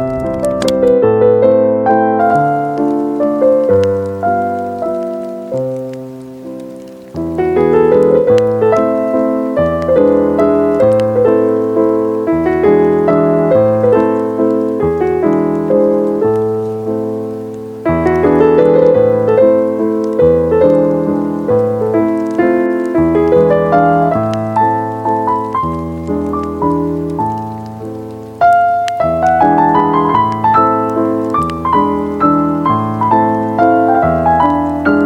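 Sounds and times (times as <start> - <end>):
slow solo piano music: 0.0 - 35.0.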